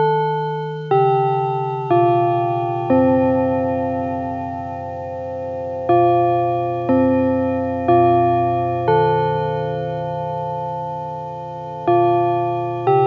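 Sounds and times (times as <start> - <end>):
bell-like chime melody: 0.0 - 13.0.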